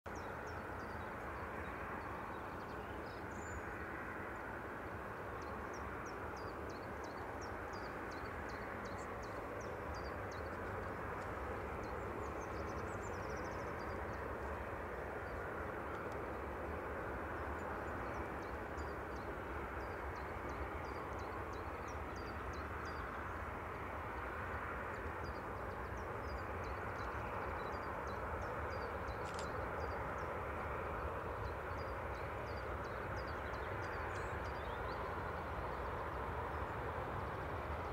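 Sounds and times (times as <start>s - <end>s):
distant jet engine noise: 0.1s - 37.9s.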